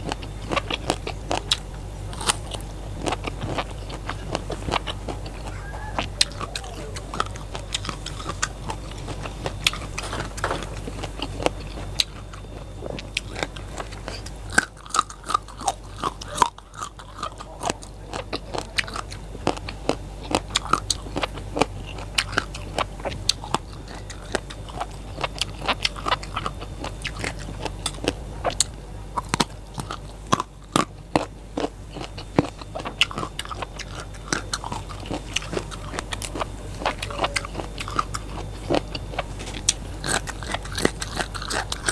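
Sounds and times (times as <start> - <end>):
chewing crisp raw vegetables: 0.0 - 41.9.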